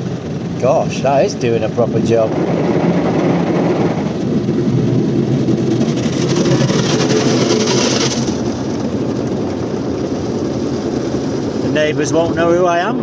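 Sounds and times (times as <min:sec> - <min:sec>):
car wash machinery rumble: 0:00.0 - 0:13.0.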